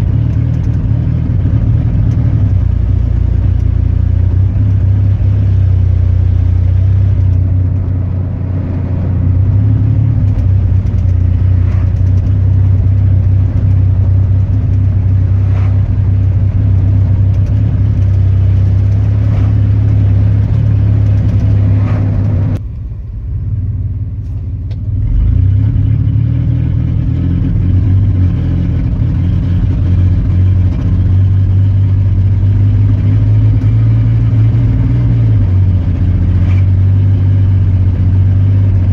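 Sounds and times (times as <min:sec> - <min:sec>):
engine running with a misfire: 0:00.0 - 0:25.9, 0:26.5 - 0:38.9.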